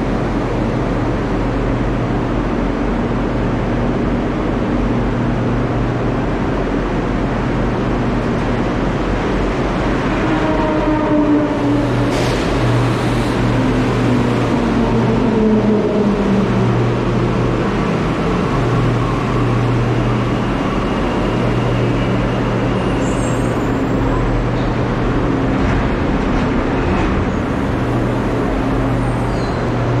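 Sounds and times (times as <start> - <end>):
train hum and rumble: 0.0 - 30.0.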